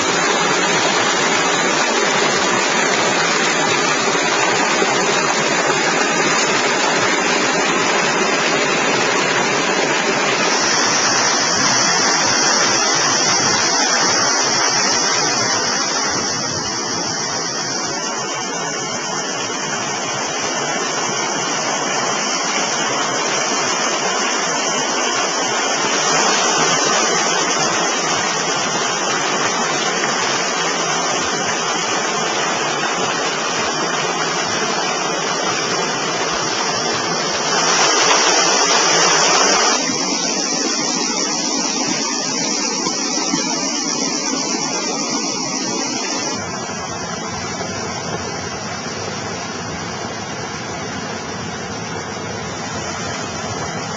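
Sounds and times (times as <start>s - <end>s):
flowing water rushing: 0.0s - 53.9s
high hiss: 0.0s - 53.9s.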